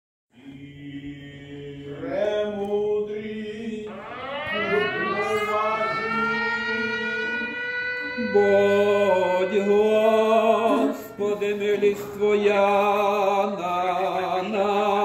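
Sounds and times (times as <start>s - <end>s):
choir chanting held notes: 0.4s - 15.0s.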